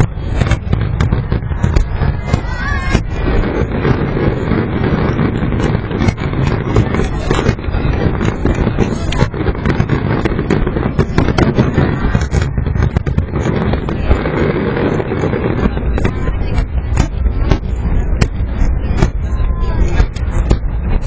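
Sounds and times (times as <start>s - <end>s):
fireworks booms and cracks: 0.0s - 21.0s.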